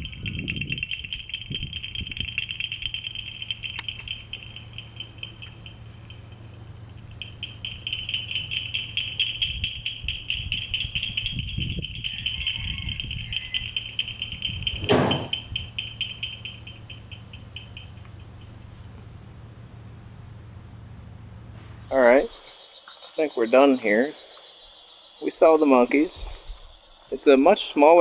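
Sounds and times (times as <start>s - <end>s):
cicadas trilling: 0.0s - 28.0s.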